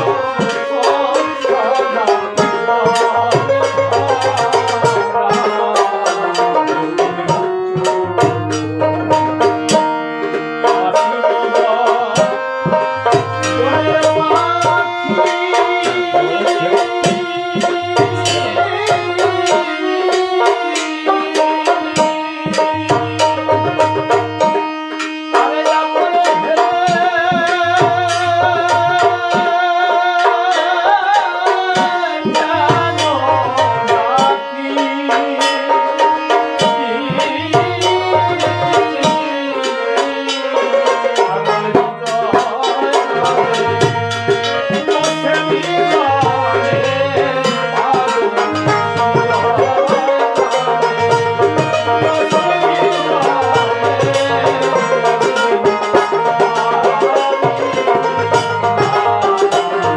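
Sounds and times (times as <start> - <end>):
hand drum beat: 0.0 - 34.4, 35.0 - 59.9
sustained melody instruments: 0.0 - 59.9.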